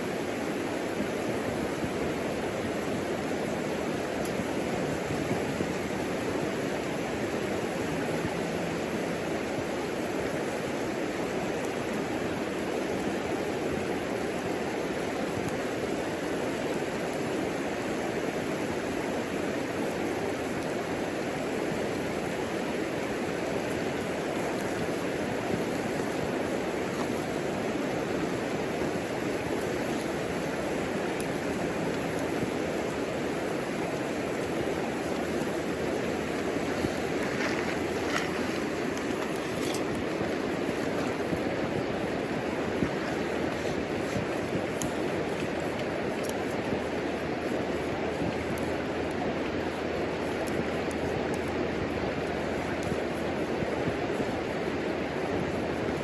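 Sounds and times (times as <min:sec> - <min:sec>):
faint fire crackles: 0:00.0 - 0:56.0
fire burning in wood stove: 0:00.0 - 0:56.0.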